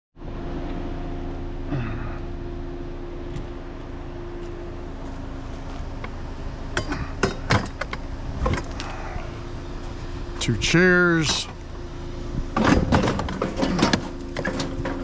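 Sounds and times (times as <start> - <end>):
vehicle engine humming: 0.2 - 15.0.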